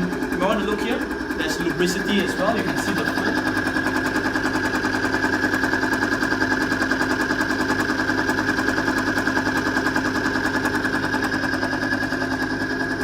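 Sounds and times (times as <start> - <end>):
test machine whining and pulsing: 0.0 - 13.0.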